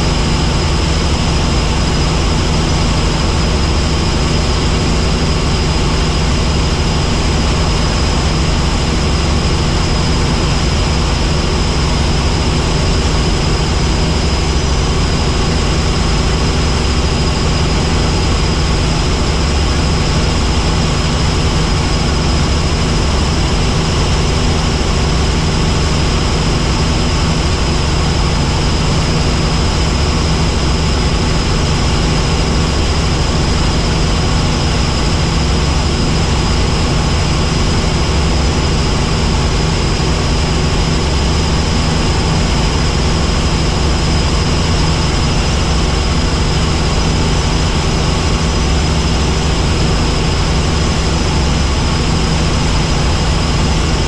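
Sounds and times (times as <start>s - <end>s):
helicopter rotor drone: 0.0s - 54.0s
high-pitched whine: 0.0s - 54.0s.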